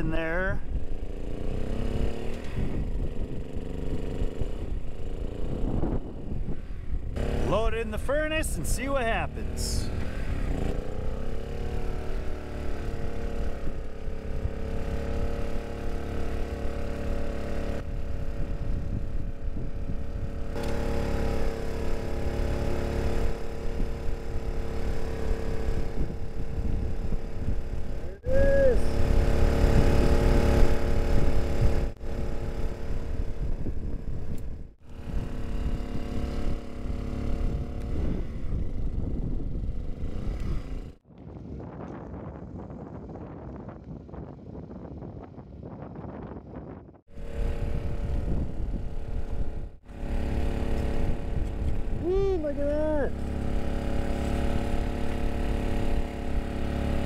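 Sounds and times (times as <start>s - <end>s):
engine hum: 0.0s - 41.4s, 47.0s - 57.0s.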